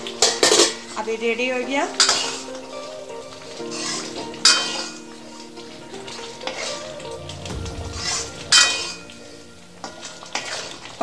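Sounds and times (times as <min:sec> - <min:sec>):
light sizzle: 0:00.0 - 0:11.0.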